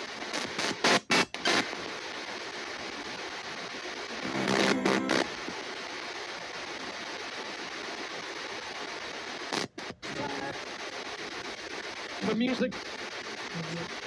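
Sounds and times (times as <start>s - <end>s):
faint radio broadcast snatch: 0.0s - 14.0s
radio static hiss: 0.0s - 14.0s.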